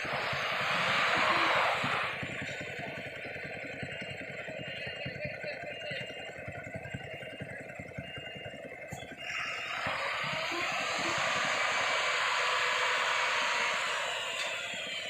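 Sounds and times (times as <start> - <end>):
truck diesel engine throbbing: 0.0 - 15.0.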